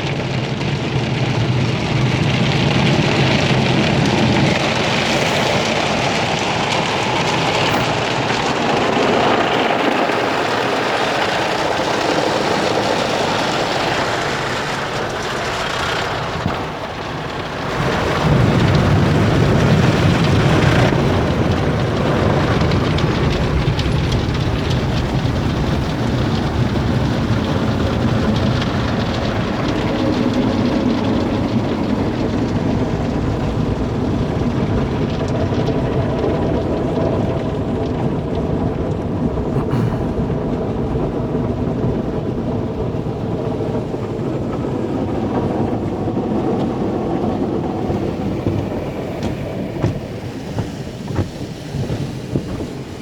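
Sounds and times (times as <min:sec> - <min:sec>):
water spray drumming on car: 0:00.0 - 0:53.0.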